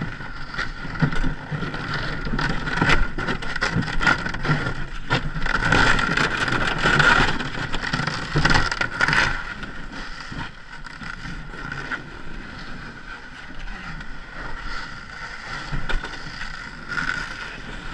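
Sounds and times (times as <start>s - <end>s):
canoe travelling on ice: 0.0s - 17.9s.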